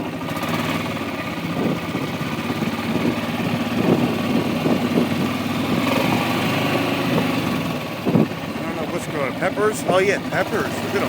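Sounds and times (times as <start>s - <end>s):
atv engine running at low speed: 0.0s - 11.0s.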